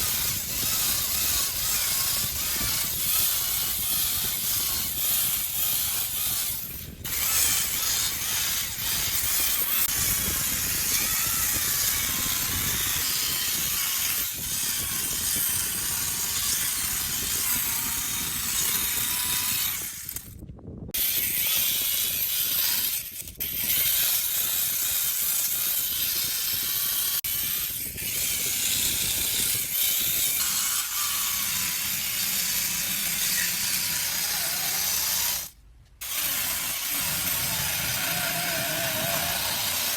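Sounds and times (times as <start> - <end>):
chainsaw cutting wood: 0.0 - 20.3, 21.0 - 39.9.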